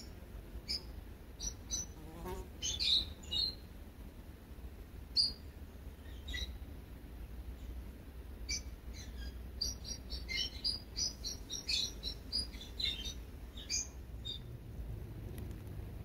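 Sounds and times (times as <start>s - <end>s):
small birds chirping: 0.0s - 3.7s, 5.1s - 14.6s.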